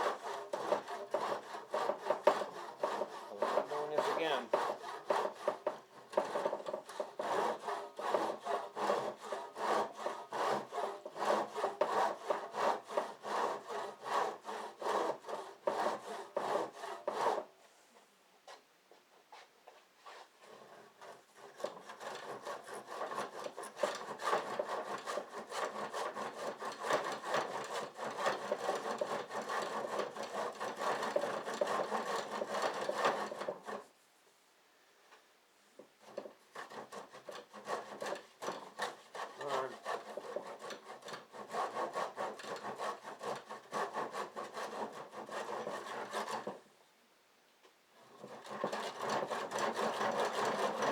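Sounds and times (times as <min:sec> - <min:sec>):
hand saw cutting: 0:00.0 - 0:17.5, 0:20.4 - 0:33.9, 0:36.0 - 0:46.6, 0:48.0 - 0:50.9.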